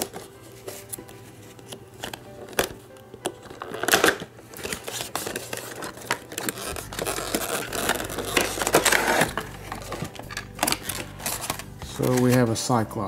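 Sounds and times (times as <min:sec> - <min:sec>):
packaging crinkling and rustling: 0:00.0 - 0:12.7.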